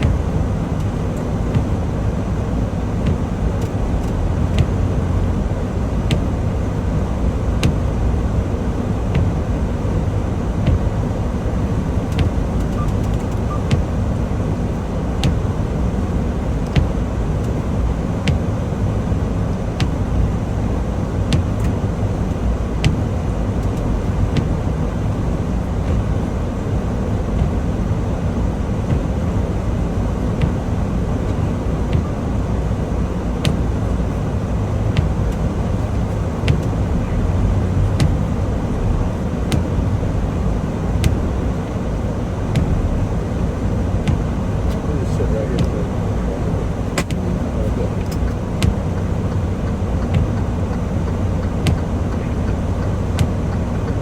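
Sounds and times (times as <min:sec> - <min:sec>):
truck engine and road rumble: 0:00.0 - 0:54.0.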